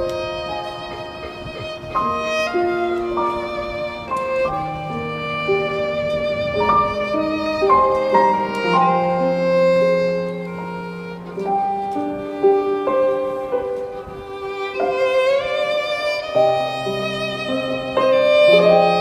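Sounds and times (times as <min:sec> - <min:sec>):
slow violin music: 0:00.0 - 0:19.0.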